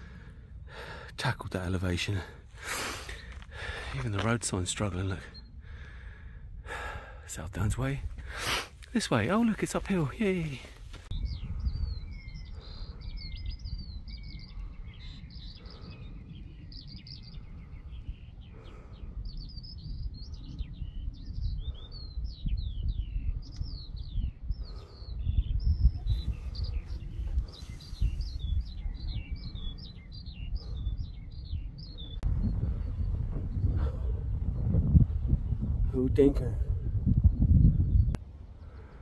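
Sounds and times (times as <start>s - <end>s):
birds chirping and trilling: 0.0s - 39.0s.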